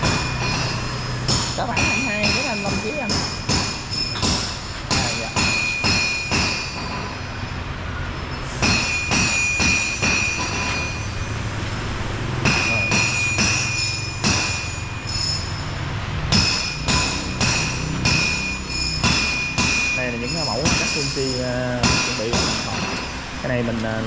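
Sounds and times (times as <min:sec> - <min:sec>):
hammer striking steel: 0:00.0 - 0:11.6, 0:12.4 - 0:23.4.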